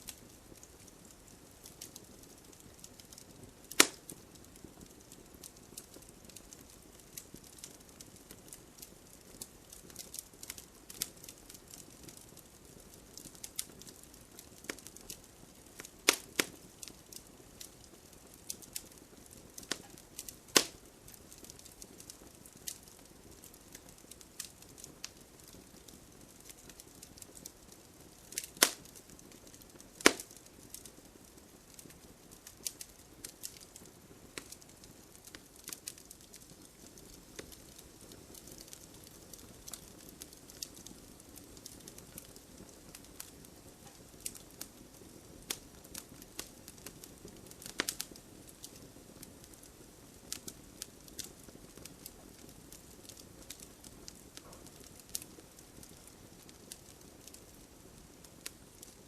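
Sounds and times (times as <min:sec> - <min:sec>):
burning logs popping: 0:00.0 - 0:59.0
wood fire crackling: 0:00.0 - 0:59.0.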